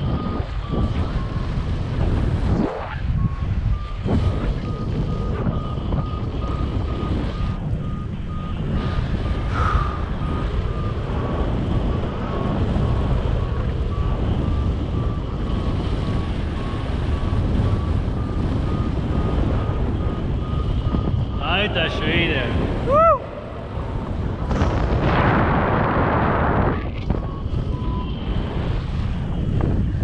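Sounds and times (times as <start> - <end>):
variometer beeping: 0.0 - 24.8, 26.6 - 28.4
wind rush on microphone: 0.0 - 30.0.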